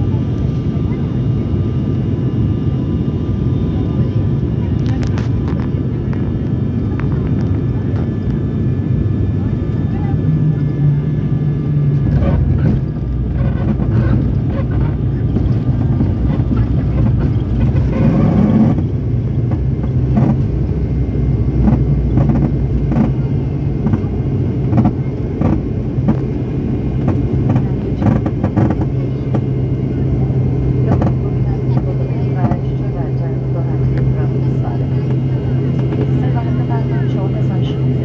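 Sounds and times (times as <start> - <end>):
turboprop engines droning: 0.0 - 38.0.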